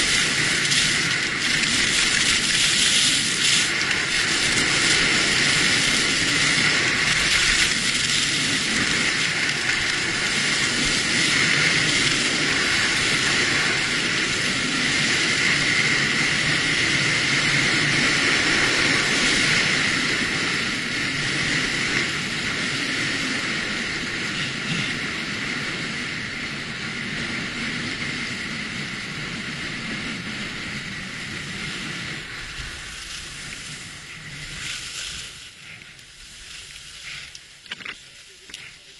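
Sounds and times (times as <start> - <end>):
skis sliding over snow: 0.0 - 38.9
wind on microphone: 0.0 - 38.9.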